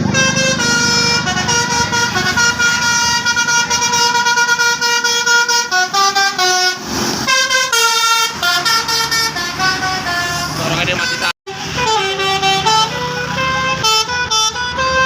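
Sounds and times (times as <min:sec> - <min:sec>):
musical bus air horn: 0:00.0 - 0:15.0.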